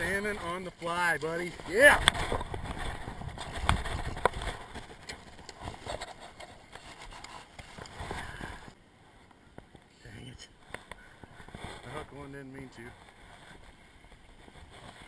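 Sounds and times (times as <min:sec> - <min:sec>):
rumbling wind: 0:00.0 - 0:15.0.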